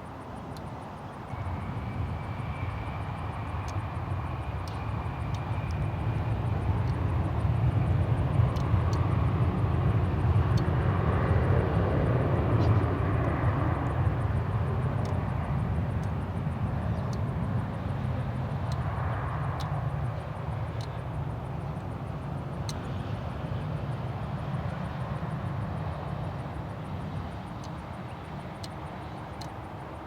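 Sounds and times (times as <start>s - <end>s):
airliner engines rumbling: 0.0s - 30.0s.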